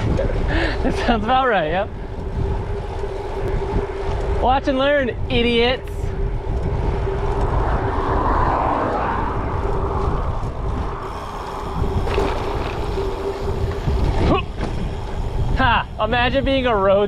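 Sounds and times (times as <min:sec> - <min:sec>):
faint steady hum: 0:00.0 - 0:17.0
wind rushing over microphone: 0:00.0 - 0:17.0.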